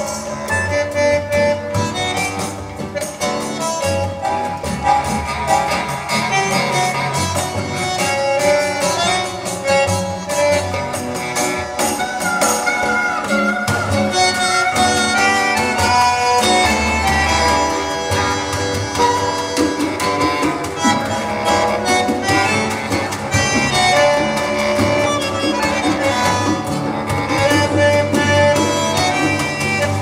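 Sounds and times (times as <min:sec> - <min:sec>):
violin and plucked strings music: 0:00.0 - 0:30.0.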